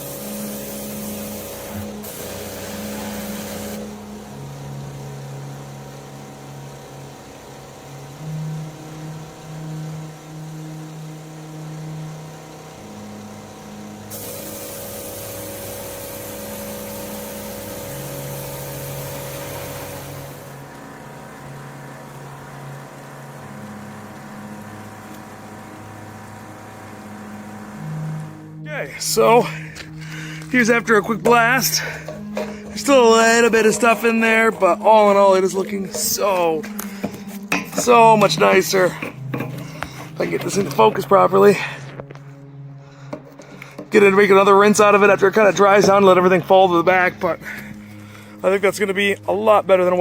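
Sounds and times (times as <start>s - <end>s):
pressure washer spraying metal tank: 0.0s - 41.9s, 43.0s - 50.0s
pressure washer motor hum: 0.0s - 50.0s.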